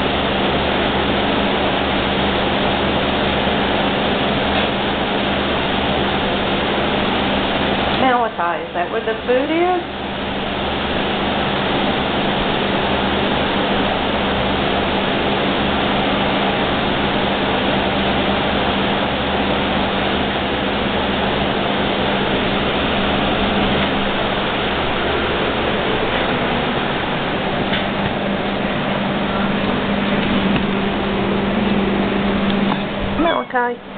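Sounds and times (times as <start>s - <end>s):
household machine humming: 0.0s - 33.9s.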